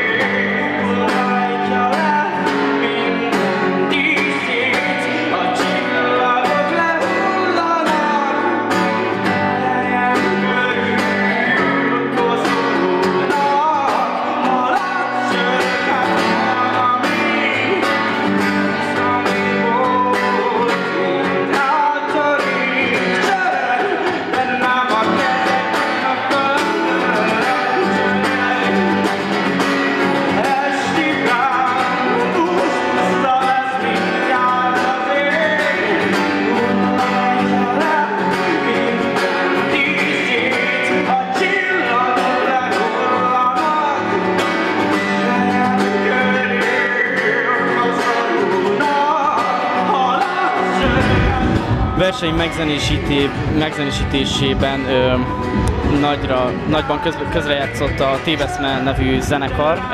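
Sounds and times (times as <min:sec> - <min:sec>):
man singing: 0:00.0 - 0:59.9
strummed acoustic guitar: 0:00.0 - 0:59.9.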